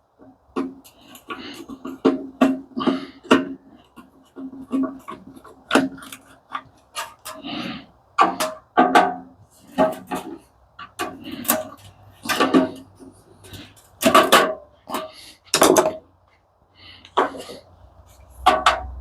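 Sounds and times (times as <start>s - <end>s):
metal parts knocking and clanking: 0.6s - 16.0s, 18.3s - 19.0s.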